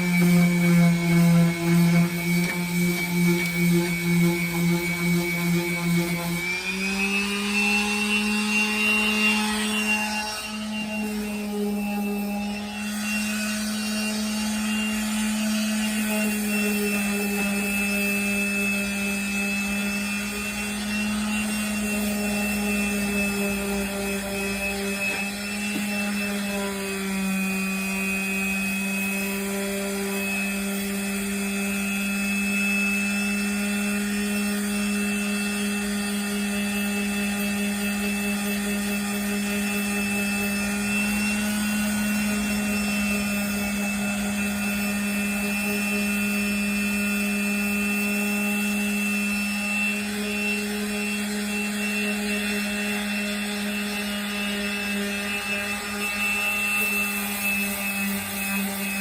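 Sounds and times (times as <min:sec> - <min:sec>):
electric power sander: 0:00.0 - 0:59.0.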